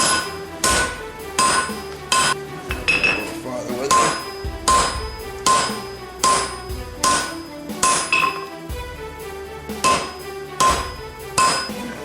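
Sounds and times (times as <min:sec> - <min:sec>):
hammer striking steel on anvil: 0:00.0 - 0:08.5, 0:09.8 - 0:12.0.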